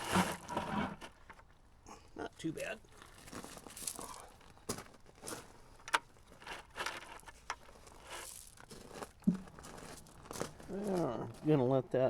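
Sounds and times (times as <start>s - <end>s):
scrapes and crinkling: 0.0s - 1.5s, 2.9s - 11.6s.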